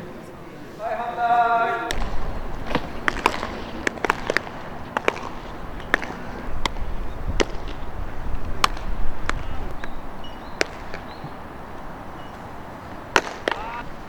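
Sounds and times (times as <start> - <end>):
balls hitting gloves and bats: 1.8 - 14.0.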